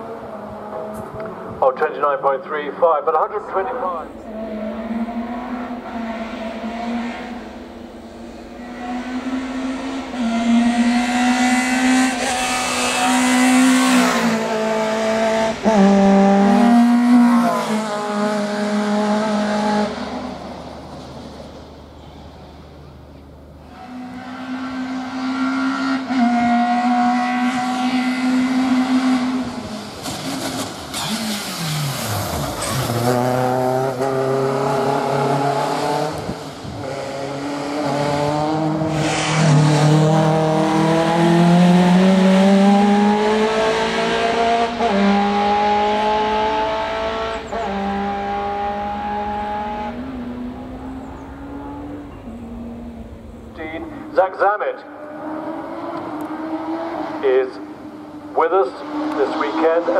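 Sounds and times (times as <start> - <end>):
racing car engine accelerating: 3.2 - 59.9.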